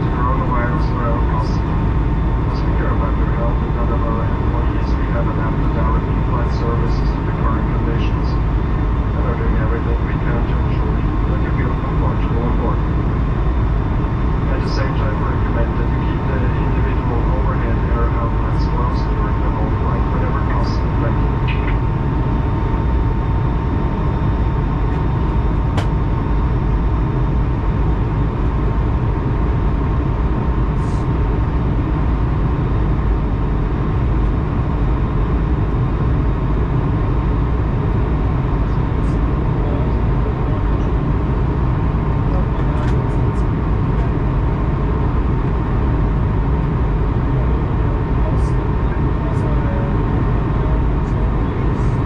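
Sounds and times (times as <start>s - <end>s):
airliner engine rumble: 0.0s - 52.0s.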